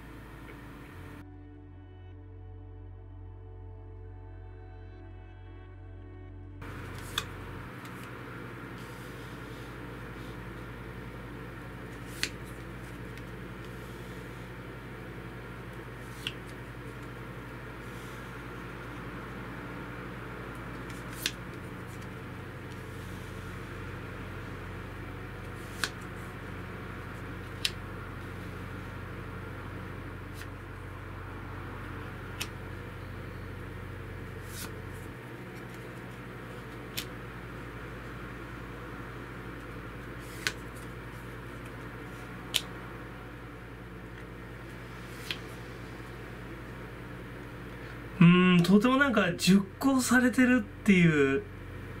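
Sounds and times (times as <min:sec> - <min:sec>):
low room tone hum: 0:00.0 - 0:52.0.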